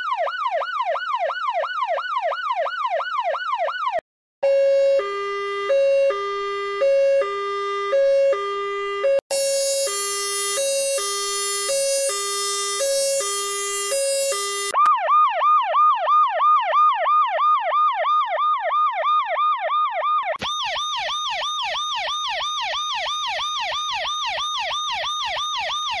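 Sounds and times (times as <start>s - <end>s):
fast yelp siren: 0.0s - 26.0s
fire truck yelp siren: 0.0s - 26.0s
two-tone ambulance siren: 0.0s - 26.0s.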